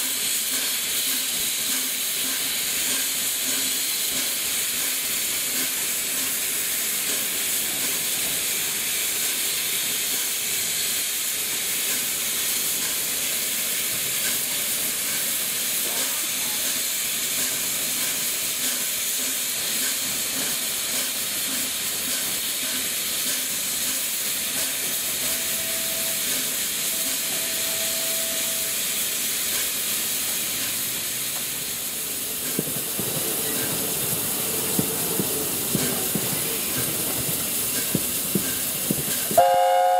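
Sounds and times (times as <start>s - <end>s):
steam hissing from locomotive: 0.0s - 39.9s
steam locomotive chuffing: 0.0s - 39.9s.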